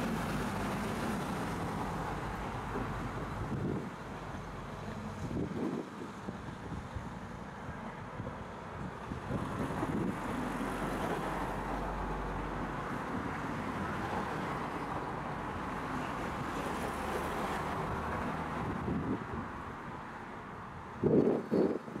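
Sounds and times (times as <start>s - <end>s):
passing cars: 0.0s - 22.0s.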